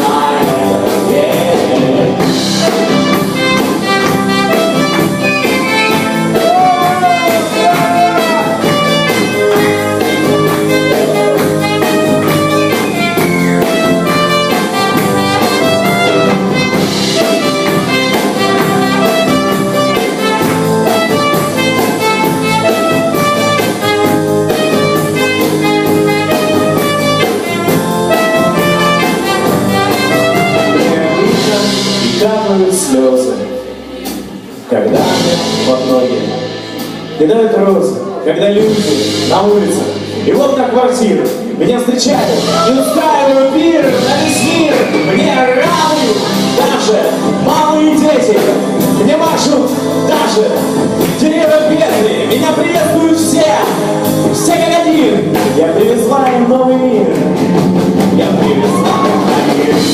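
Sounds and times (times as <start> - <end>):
drum kit beat: 0.0 - 37.2, 38.6 - 59.9
lead melody line: 0.0 - 59.9.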